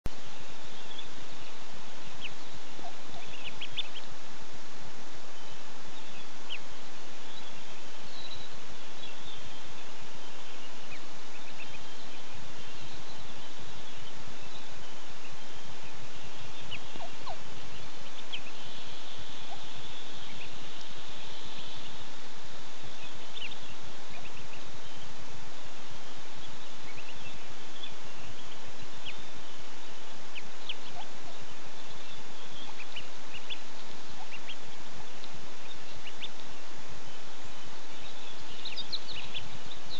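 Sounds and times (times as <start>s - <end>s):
small birds chirping: 0.0s - 39.9s
steady outdoor hiss: 0.0s - 39.9s
faint constant hum: 0.1s - 39.9s.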